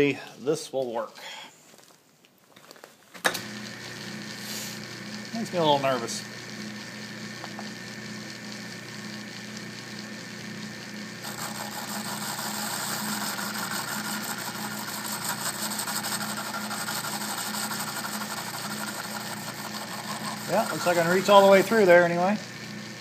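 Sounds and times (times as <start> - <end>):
metal lathe humming: 3.4 - 23.0.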